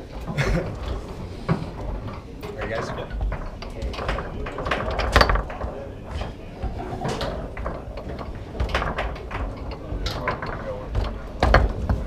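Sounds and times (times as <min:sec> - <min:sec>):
foosball rods sliding and clacking: 0:00.0 - 0:12.0.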